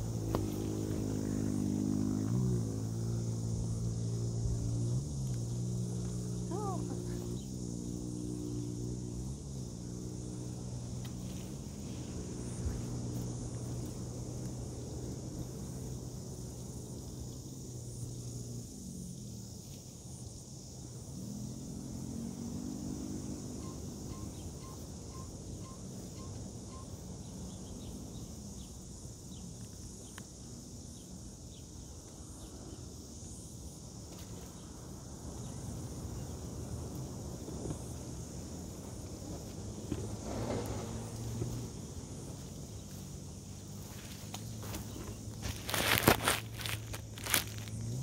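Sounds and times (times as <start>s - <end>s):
insects trilling: 0.0s - 48.0s.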